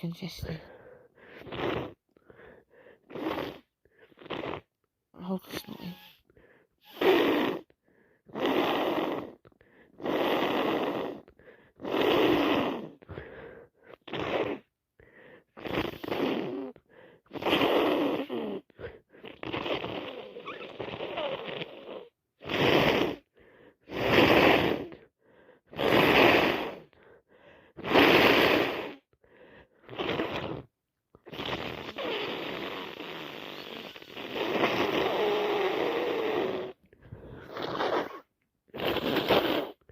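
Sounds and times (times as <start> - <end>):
person blowing nose hard: 1.2 - 4.7, 5.5 - 6.2, 6.8 - 14.7, 15.5 - 25.0, 25.7 - 26.9, 27.7 - 39.9.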